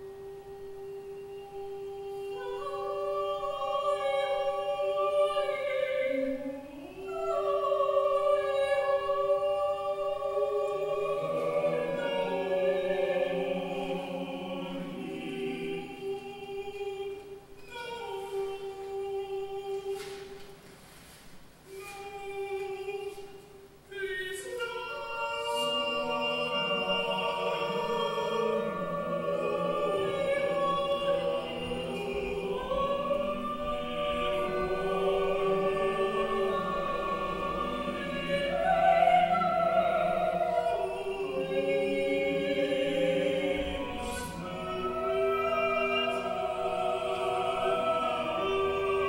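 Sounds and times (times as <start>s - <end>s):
opera singing over loudspeakers: 0.0s - 20.6s, 21.7s - 49.0s.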